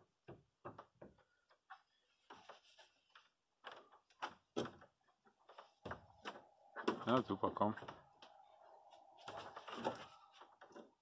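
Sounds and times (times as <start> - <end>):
shoes and hands tapping climbing holds: 0.1 - 11.0.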